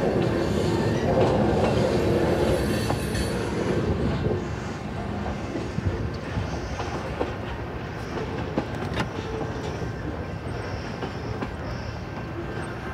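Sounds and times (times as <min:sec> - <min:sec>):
train wheels rumbling on rails: 0:00.0 - 0:12.9.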